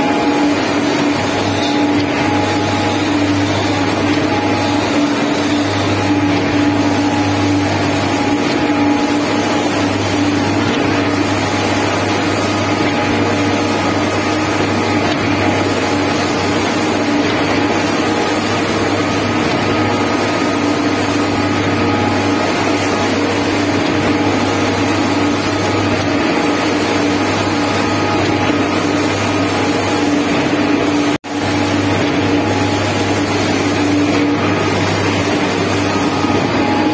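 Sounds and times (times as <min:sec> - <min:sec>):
concrete spraying machine running: 0:00.0 - 0:36.9.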